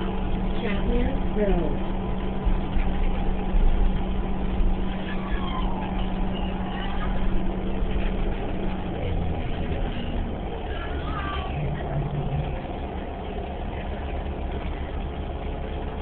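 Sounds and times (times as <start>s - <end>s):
bus drivetrain hum: 0.0s - 16.0s
road rumble: 0.0s - 16.0s.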